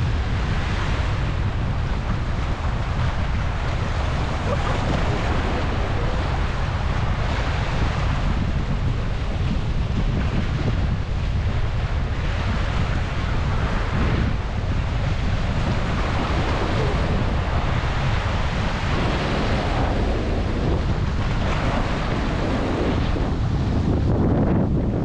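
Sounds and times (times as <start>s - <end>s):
waves breaking over rocks: 0.0s - 24.2s
wind buffeting microphone: 0.0s - 25.0s.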